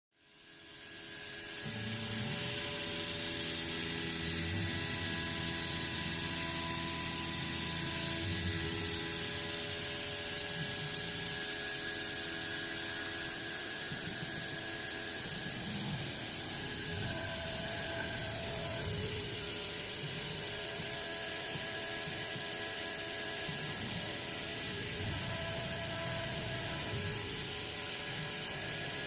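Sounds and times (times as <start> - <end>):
milling machine motor whine: 0.3 - 29.0
metal cutting hiss: 0.5 - 29.0.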